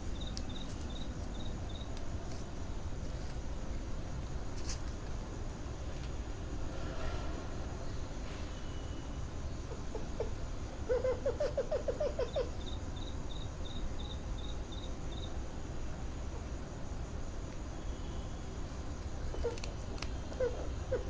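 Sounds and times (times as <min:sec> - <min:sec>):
high insect chirps: 0:00.0 - 0:21.0.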